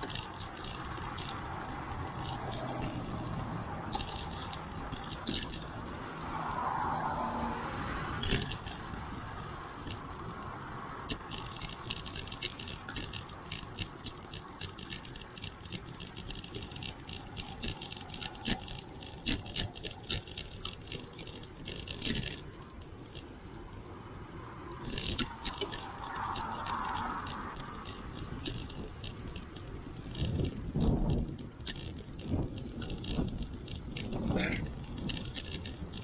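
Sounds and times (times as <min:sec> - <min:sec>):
road traffic passing: 0:00.0 - 0:36.0
tyre and wind noise: 0:00.0 - 0:36.0.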